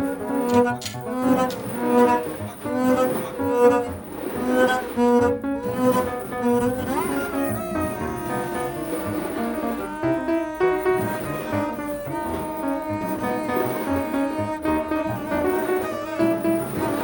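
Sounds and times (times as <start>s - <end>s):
bowed double bass jazz: 0.0s - 17.0s.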